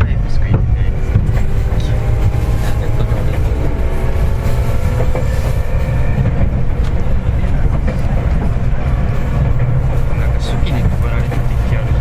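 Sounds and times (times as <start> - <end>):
train wheels rumbling on rail: 0.0 - 12.0
wheel click on rail joint: 0.0 - 12.0.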